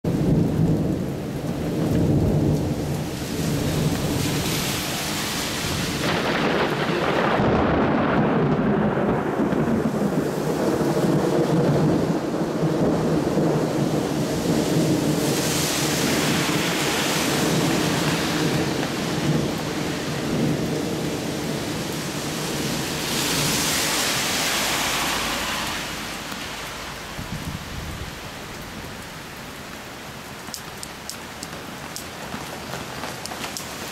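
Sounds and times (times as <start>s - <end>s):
heavy downpour: 0.0s - 33.9s
rolling thunder: 0.1s - 25.2s, 26.9s - 29.0s.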